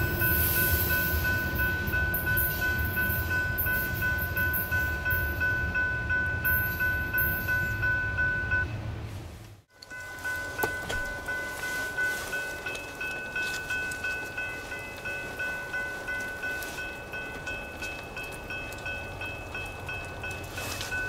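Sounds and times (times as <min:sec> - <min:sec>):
crossing bells ringing: 0:00.0 - 0:08.8, 0:09.7 - 0:21.0.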